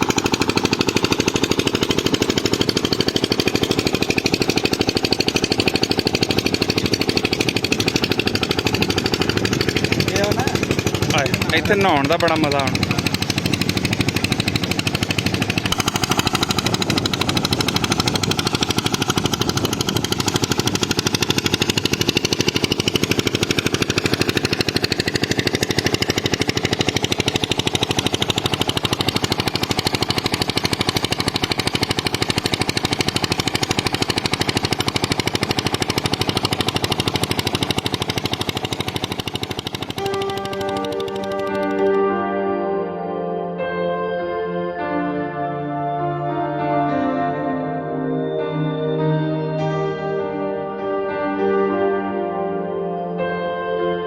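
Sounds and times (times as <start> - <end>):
diesel engine running: 0.0 - 53.7.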